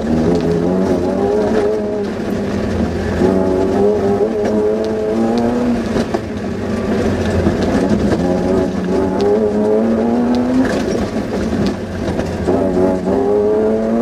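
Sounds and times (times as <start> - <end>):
car engine pulling: 0.0 - 14.0.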